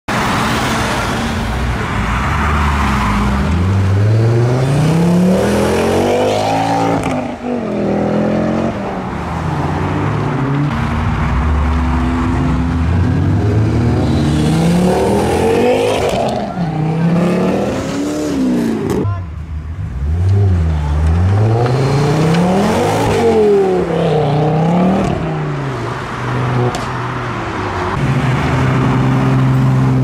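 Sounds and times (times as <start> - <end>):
car engines revving hard: 0.1 - 30.0.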